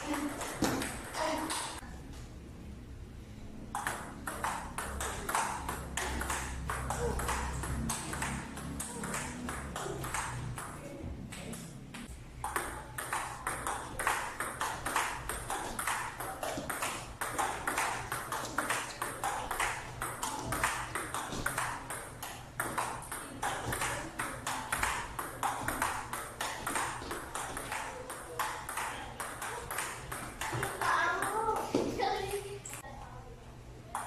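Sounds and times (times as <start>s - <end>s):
ping-pong ball bouncing on table: 0.0s - 1.8s, 3.7s - 31.7s
ping-pong ball clicking off paddles: 3.7s - 31.8s.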